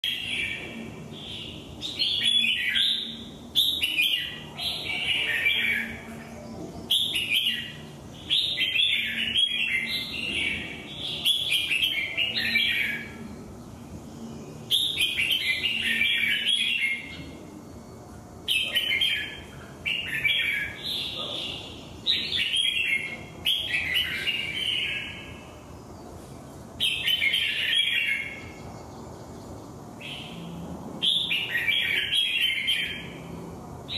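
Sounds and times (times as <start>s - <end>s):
bird singing rapid warbling: 0.0s - 33.9s.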